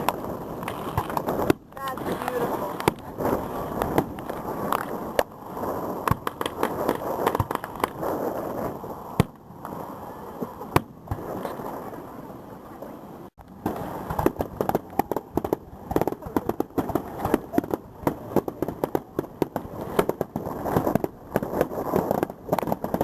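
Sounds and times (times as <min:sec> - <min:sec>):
rapid firework pops: 0:00.0 - 0:09.8, 0:10.4 - 0:11.6, 0:13.4 - 0:23.0
firework bangs: 0:00.0 - 0:11.9, 0:13.6 - 0:23.0
fireworks crackling: 0:00.0 - 0:12.4, 0:13.4 - 0:23.0.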